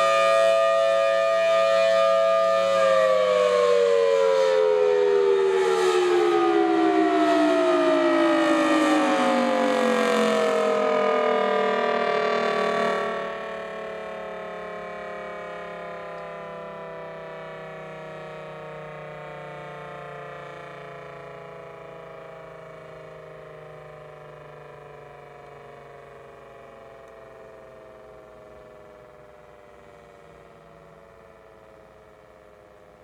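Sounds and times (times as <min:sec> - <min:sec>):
warning siren winding down: 0:00.0 - 0:33.0.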